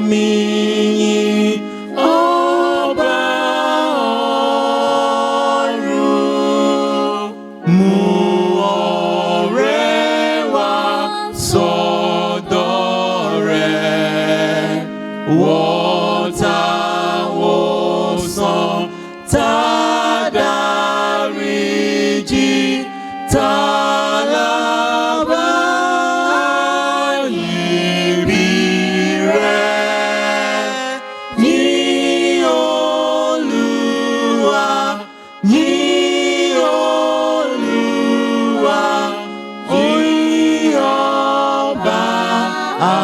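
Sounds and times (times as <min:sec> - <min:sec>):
choir singing a hymn: 0:00.0 - 0:43.0.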